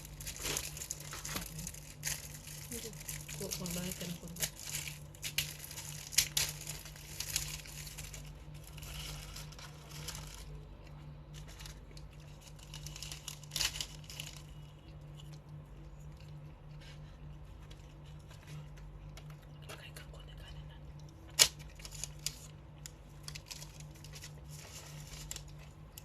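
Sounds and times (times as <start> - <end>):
paper wrapping crinkling and tearing: 0.0 - 19.4, 21.2 - 26.0
steady low hum: 0.0 - 26.0.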